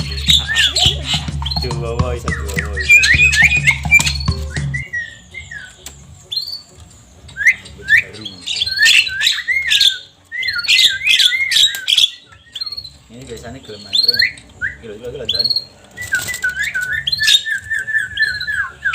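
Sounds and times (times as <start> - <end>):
bird clicking squawks: 0.0 - 13.0, 13.8 - 18.9
bird whistled chirps: 0.0 - 18.9.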